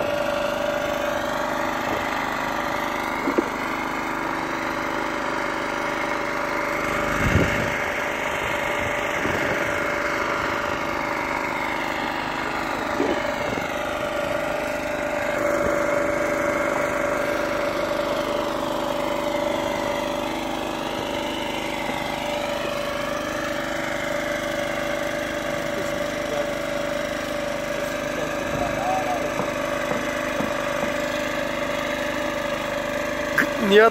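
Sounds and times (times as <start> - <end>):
generator engine running: 0.0 - 33.9.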